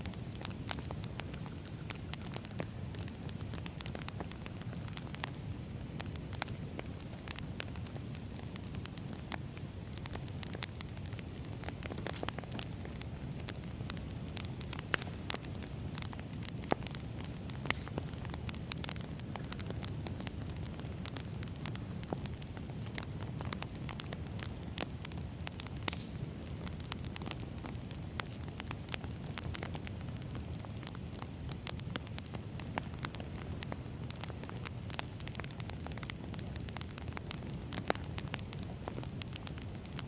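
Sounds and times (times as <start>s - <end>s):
fire popping: 0.0s - 40.0s
wood fire crackling: 0.0s - 40.0s.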